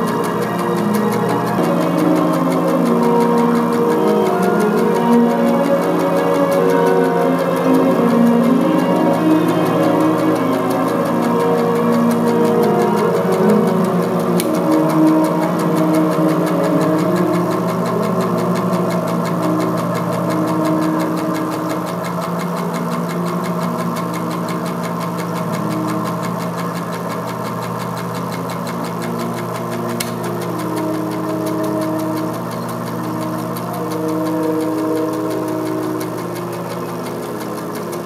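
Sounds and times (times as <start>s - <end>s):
fast even ticking: 0.0s - 38.0s
sustained tones: 0.0s - 38.0s.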